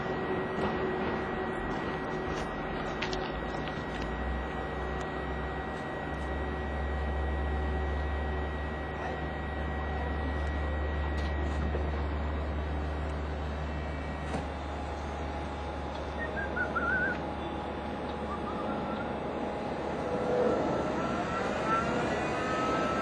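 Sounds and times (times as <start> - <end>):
low engine drone: 0.0 - 23.0
thin steady whine: 0.0 - 23.0.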